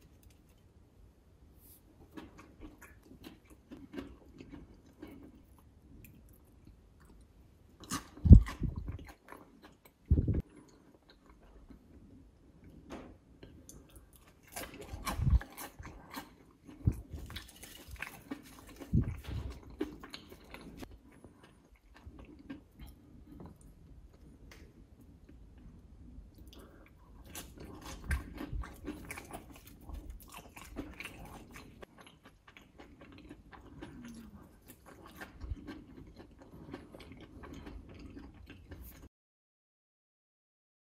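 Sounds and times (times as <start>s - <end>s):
person chewing crisp fries: 1.9s - 12.1s, 13.4s - 39.1s.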